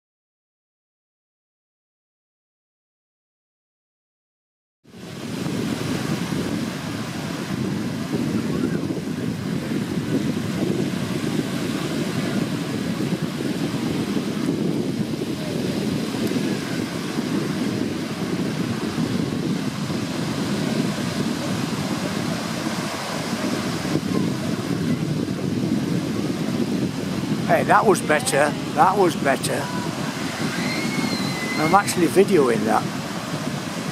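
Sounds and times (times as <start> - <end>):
small waves breaking: 4.9 - 33.9
wind buffeting microphone: 4.9 - 33.9.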